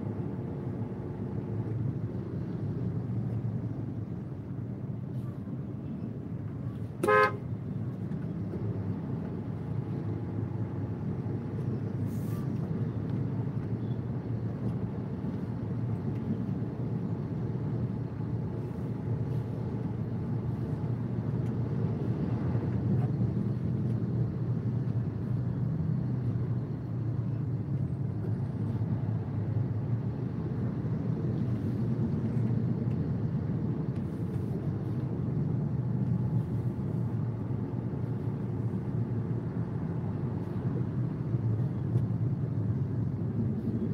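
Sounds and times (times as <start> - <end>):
car engine rumbling: 0.0 - 43.9
surrounding traffic: 0.0 - 43.9.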